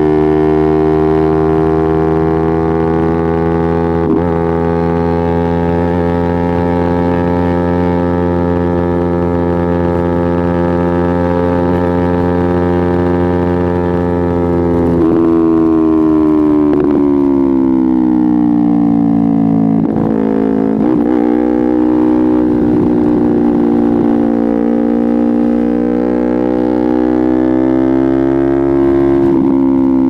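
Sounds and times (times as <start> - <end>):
motorcycle engine and exhaust: 0.0 - 30.0.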